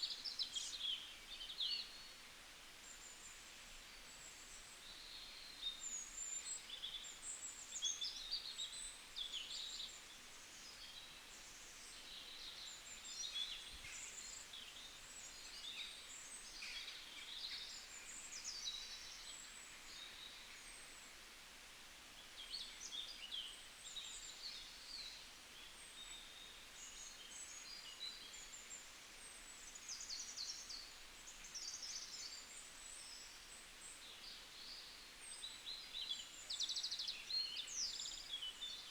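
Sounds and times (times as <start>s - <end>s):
faint outdoor hiss: 0.0s - 38.9s.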